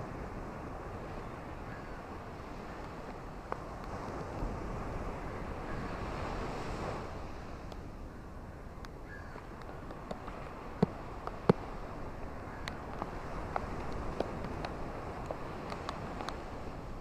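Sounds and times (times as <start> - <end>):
ocean surf: 0.0 - 17.0.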